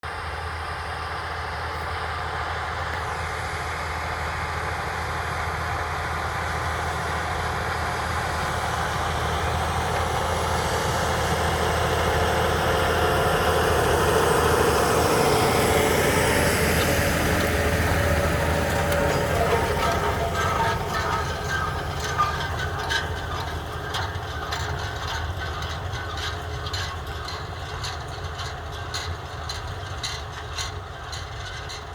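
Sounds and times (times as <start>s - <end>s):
tractor engine humming: 0.0s - 31.9s.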